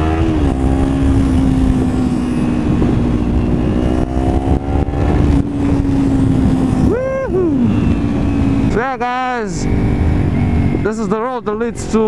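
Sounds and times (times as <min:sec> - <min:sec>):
motorcycle engine cruising: 0:00.0 - 0:12.0
wind rumble: 0:00.0 - 0:12.0.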